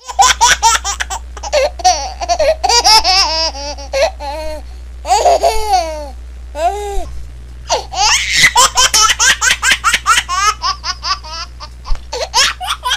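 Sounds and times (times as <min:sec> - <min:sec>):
baby laughing: 0:00.0 - 0:07.1, 0:07.7 - 0:12.9.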